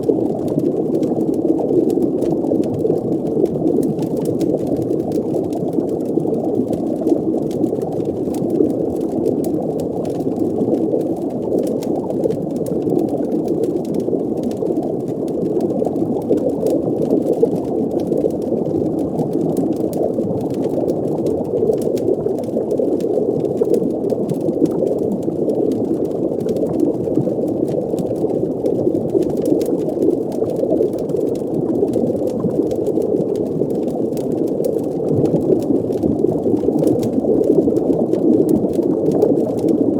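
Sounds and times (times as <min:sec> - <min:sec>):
faint crackles: 0:00.0 - 0:39.9
muffled underwater bubbling rumble: 0:00.0 - 0:39.9.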